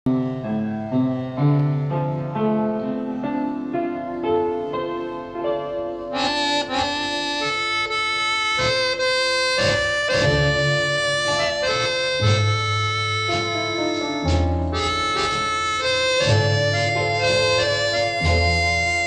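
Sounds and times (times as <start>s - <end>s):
instrumental melody: 0.1s - 19.0s.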